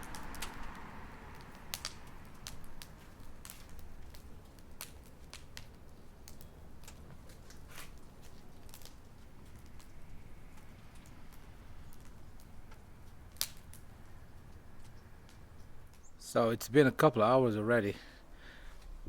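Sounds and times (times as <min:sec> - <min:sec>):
wood fire crackling and popping: 0:00.0 - 0:17.3.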